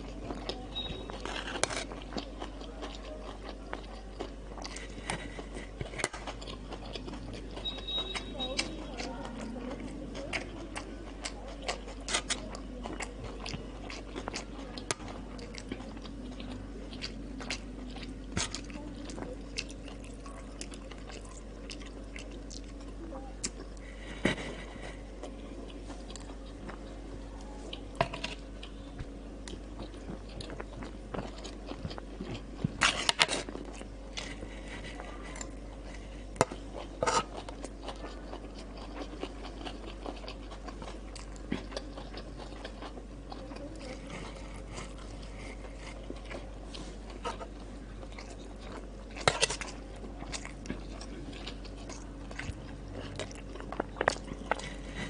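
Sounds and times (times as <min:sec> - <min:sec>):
biting and chewing food: 0:00.0 - 0:55.0.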